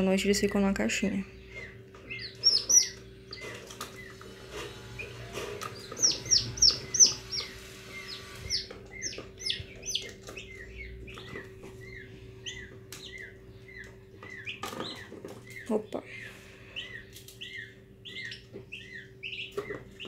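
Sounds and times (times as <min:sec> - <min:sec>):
steady low hum: 0:00.0 - 0:20.0
chicks peeping: 0:00.4 - 0:20.0.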